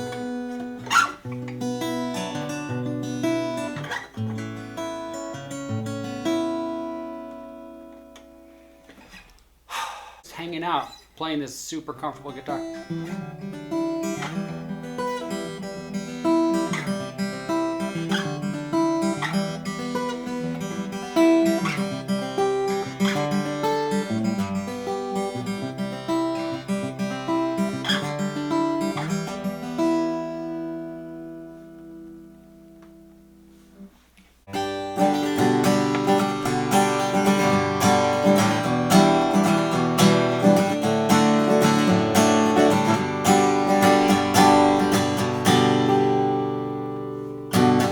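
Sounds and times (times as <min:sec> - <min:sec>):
acoustic guitar playing: 0:00.0 - 0:09.7, 0:10.3 - 0:47.9.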